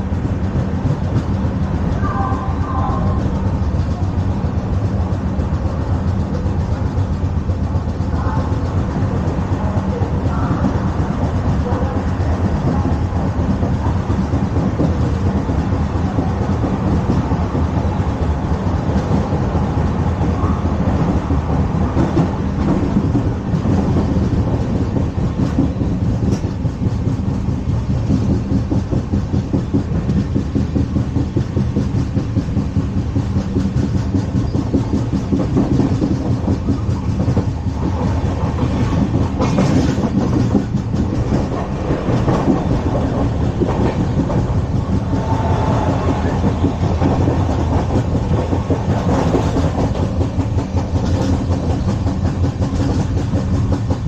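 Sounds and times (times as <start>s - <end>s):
train coach rumbling over rails: 0.0s - 54.0s.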